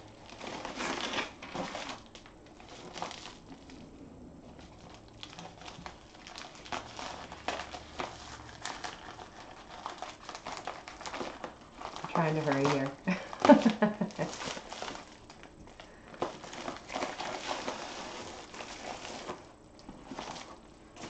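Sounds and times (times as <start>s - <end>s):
plastic mailer crinkling: 0.0s - 21.0s.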